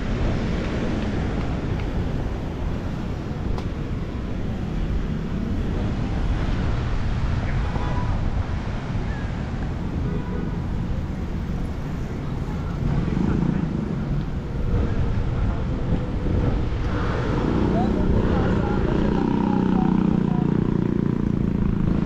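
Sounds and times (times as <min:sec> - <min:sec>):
traffic noise: 0:00.0 - 0:22.0
wind rumbling on microphone: 0:00.0 - 0:22.0.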